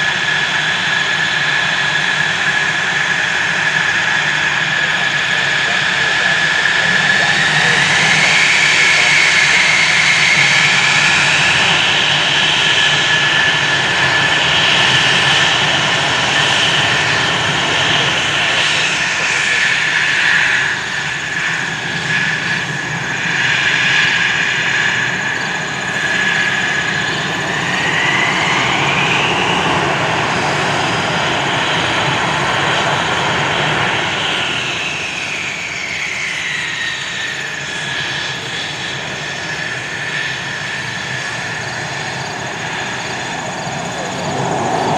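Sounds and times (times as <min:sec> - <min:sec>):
fighter jet engine roaring: 0:00.0 - 0:44.9
high engine whine: 0:00.0 - 0:44.9.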